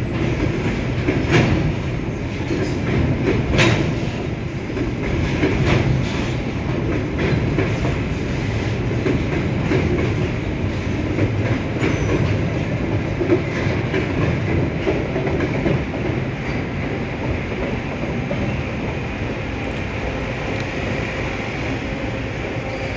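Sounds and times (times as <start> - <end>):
freight train wheels rumbling: 0.0 - 22.9
wheels clacking over rail joints: 0.1 - 20.8.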